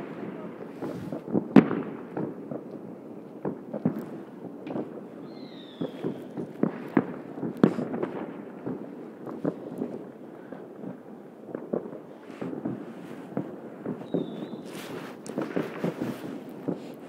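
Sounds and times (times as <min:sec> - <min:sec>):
fireworks pops and bangs: 0:00.0 - 0:17.0.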